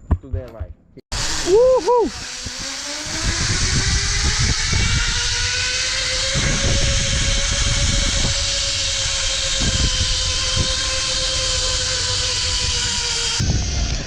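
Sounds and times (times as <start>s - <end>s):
zipline pulley whine: 1.1s - 14.0s
wind rush on microphone: 1.2s - 14.0s.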